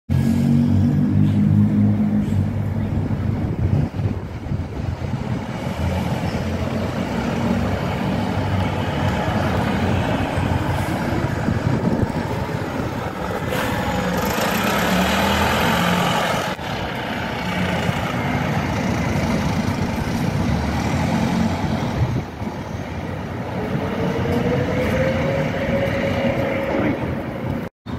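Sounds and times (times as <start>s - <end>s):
diesel bus engine passing: 0.1s - 27.9s.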